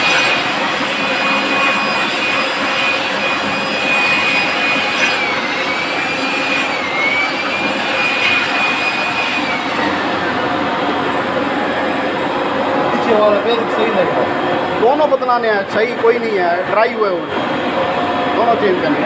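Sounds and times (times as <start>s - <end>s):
fan motor whine and rush: 0.0s - 19.0s.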